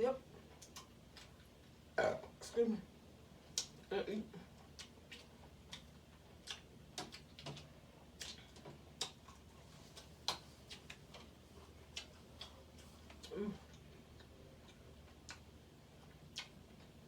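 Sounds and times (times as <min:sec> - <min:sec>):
chewing clicks and smacks: 0:00.5 - 0:01.8, 0:03.5 - 0:03.9, 0:04.5 - 0:17.0.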